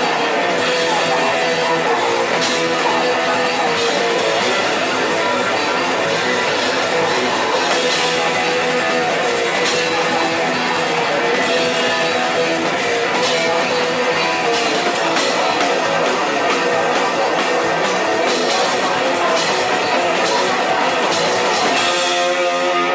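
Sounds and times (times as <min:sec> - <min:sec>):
bass guitar: 0:00.0 - 0:22.9
drum kit: 0:00.0 - 0:22.9
electric guitar: 0:00.0 - 0:22.9.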